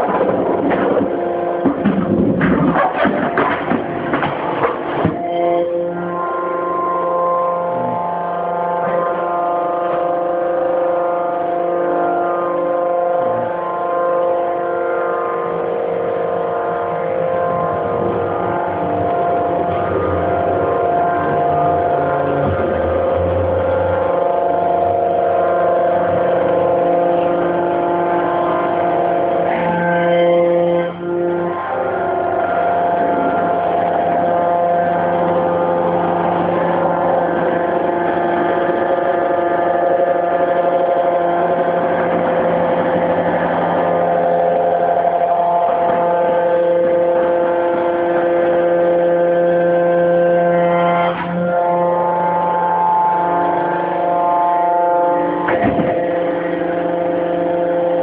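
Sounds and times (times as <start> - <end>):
hydraulic baler machine drone: 0.0 - 58.0.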